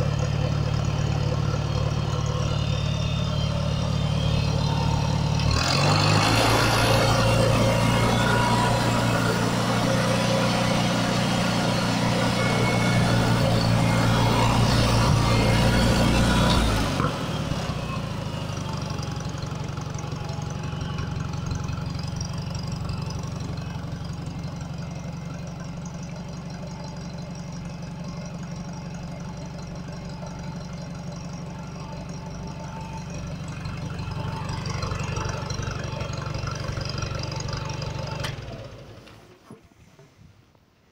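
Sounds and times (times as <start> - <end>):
tractor engine running: 0.0 - 40.2.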